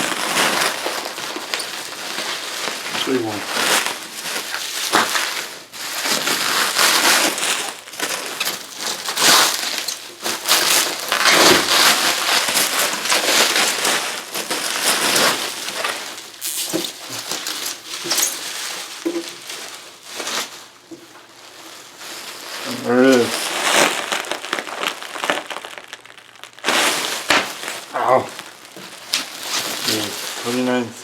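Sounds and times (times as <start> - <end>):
packaging crinkling and crunching: 0.0 - 31.0.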